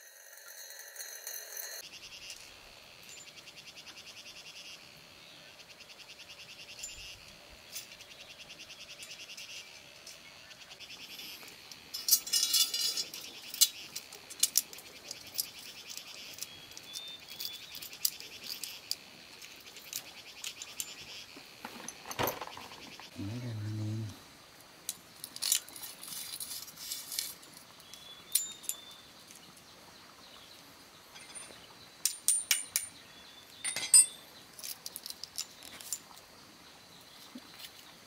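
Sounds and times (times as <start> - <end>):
insects and frogs calling: 1.8 - 38.0.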